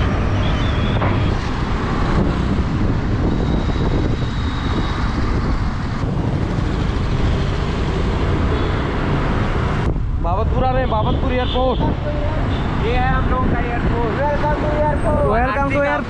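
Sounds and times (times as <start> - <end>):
passing traffic: 0.0 - 16.0
wind and road noise: 0.0 - 16.0.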